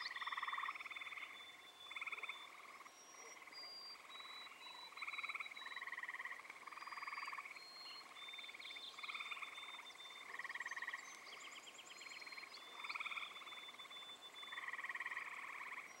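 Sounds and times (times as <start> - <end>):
frogs trilling: 0.0 - 16.0.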